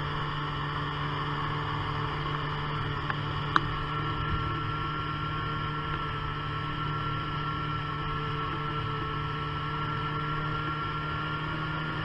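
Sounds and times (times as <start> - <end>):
muffled snowmobile engine drone: 0.0 - 12.0.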